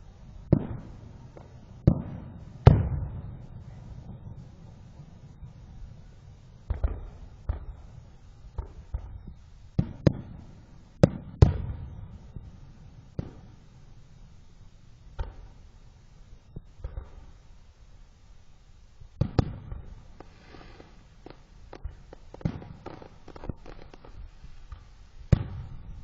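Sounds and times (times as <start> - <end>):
fireworks bangs: 0.0 - 17.6, 19.2 - 26.0.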